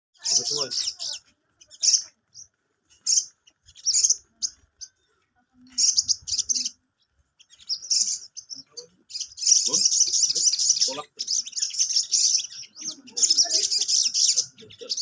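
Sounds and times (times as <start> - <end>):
bird twittering chirps: 0.2 - 15.0.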